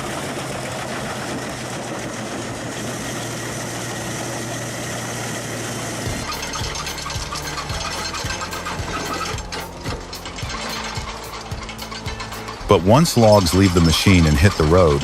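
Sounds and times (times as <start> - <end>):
log chipper engine humming: 0.0 - 15.0
log chipper running: 0.0 - 15.0.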